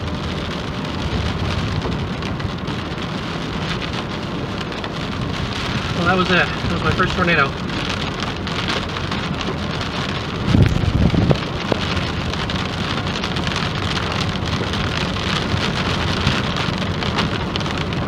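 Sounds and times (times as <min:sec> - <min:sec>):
heavy rain on a vehicle: 0:00.0 - 0:18.0.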